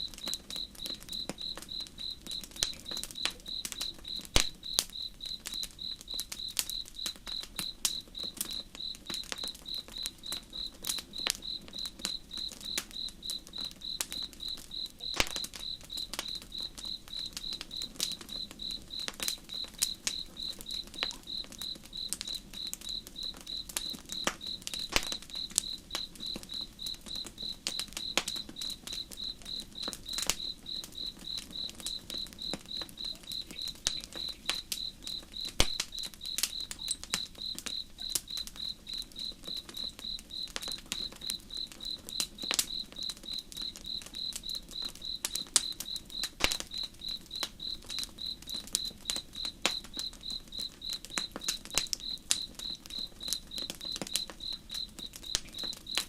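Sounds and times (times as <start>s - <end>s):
campfire crackling and popping: 0.0s - 56.0s
cricket chirping: 0.0s - 56.0s.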